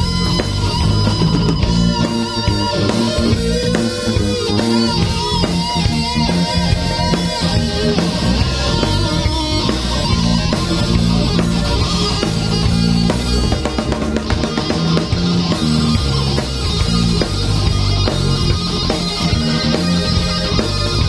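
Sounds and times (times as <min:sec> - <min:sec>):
blues band playing: 0:00.0 - 0:21.0
electric guitar: 0:00.0 - 0:21.0.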